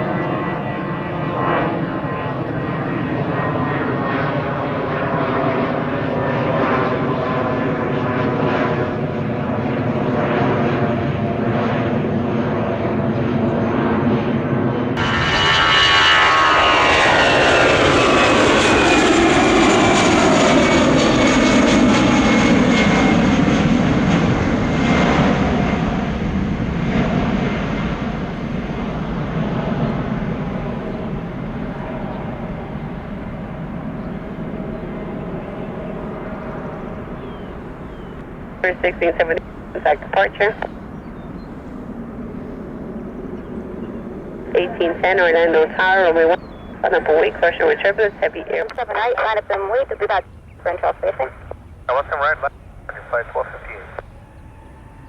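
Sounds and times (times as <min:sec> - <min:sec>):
jet engine whine: 0:00.0 - 0:55.0
jet passing by: 0:00.0 - 0:55.0.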